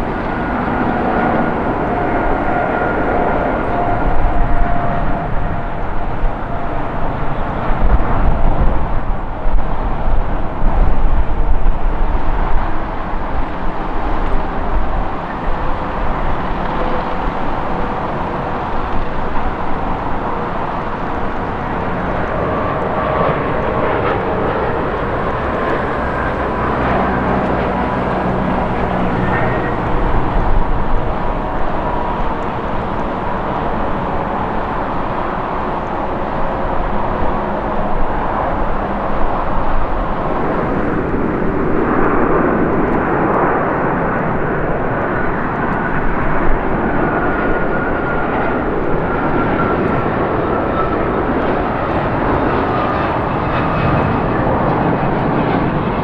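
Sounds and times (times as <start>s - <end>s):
jet engines with high whine: 0.0s - 56.0s.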